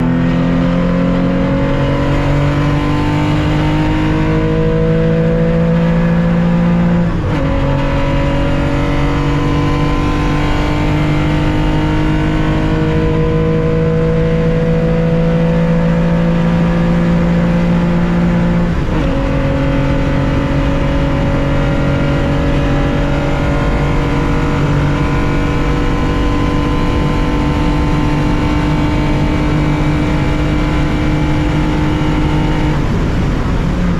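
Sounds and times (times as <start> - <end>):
race car engine under full throttle: 0.0 - 33.9.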